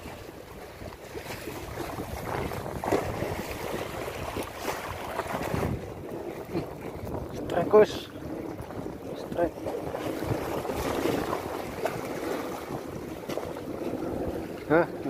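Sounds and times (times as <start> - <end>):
sea waves washing against rocks: 0.0 - 15.0
wind buffeting microphone: 0.0 - 15.0.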